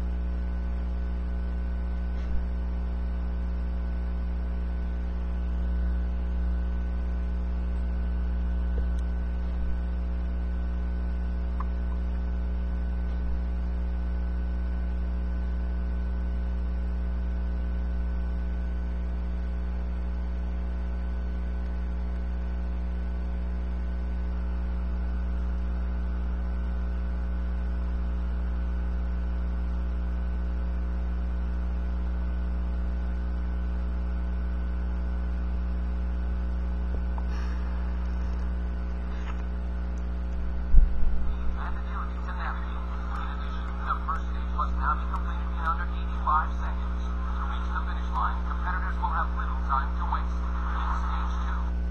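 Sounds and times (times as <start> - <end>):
electrical mains hum: 0.0 - 51.9.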